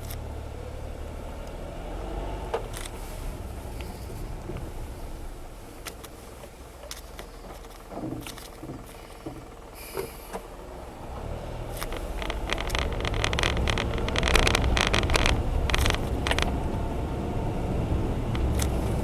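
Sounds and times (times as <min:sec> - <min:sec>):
small clicks and creaks: 0:00.0 - 0:00.2, 0:02.4 - 0:17.0, 0:18.3 - 0:19.0
engine and road rumble: 0:00.0 - 0:19.0.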